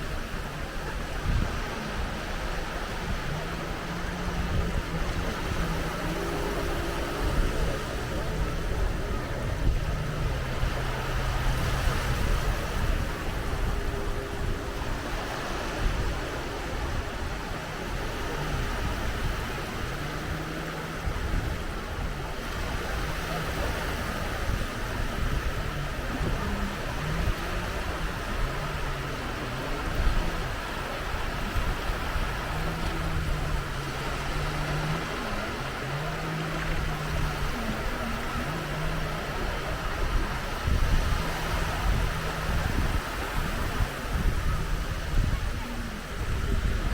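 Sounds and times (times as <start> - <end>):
sea surf washing on shore: 0.0 - 46.9
wind rumbling on microphone: 0.0 - 46.9.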